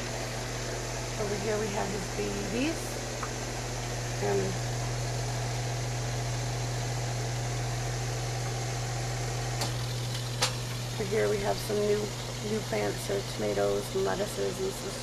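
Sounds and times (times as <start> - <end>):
equipment hum and fan rushing: 0.0 - 15.0.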